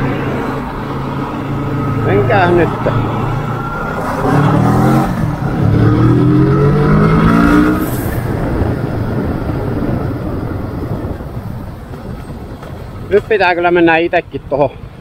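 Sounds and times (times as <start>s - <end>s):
motorcycle engine accelerating: 0.0s - 13.0s
wind rush: 0.0s - 15.0s.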